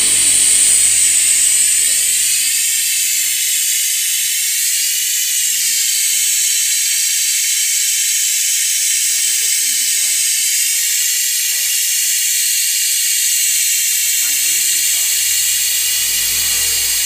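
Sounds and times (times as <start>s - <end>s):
loud high-pitched hiss: 0.0s - 17.0s.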